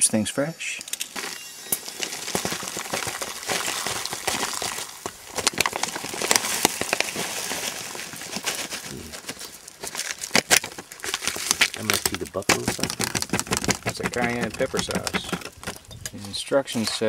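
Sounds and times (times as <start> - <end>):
dry pieces pattering into a pot: 0.8 - 16.2
foil pouch rustling and crinkling: 0.9 - 16.1.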